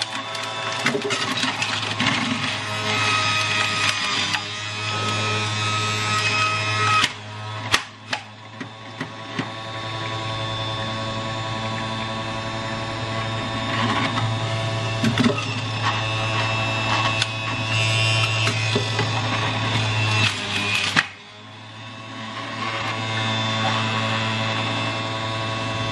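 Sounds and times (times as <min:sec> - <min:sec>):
juicer motor humming: 0:00.0 - 0:25.9.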